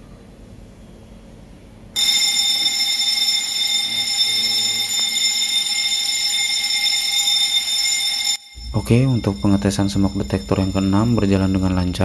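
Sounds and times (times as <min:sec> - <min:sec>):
fire alarm ringing: 0:02.0 - 0:12.0.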